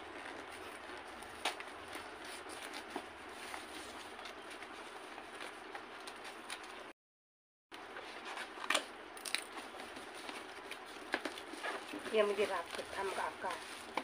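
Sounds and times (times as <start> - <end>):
handling cardboard box and packaging: 0.0 - 6.8, 7.8 - 14.0.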